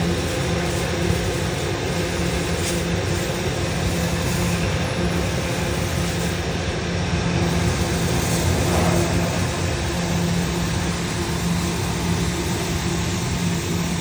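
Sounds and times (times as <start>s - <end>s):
ventilation fan running: 0.0s - 14.0s.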